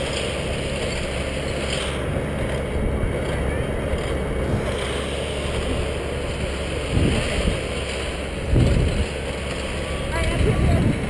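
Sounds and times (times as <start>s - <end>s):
vehicle engine running: 0.0s - 11.0s
wind buffeting microphone: 2.0s - 11.0s.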